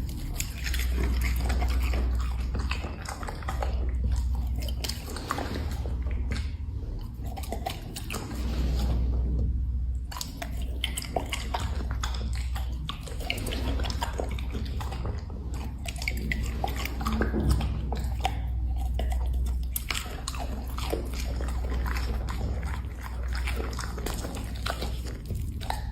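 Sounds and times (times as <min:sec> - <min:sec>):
dog chewing treats: 0:00.0 - 0:09.1, 0:10.0 - 0:25.9
steady low hum: 0:00.0 - 0:25.9.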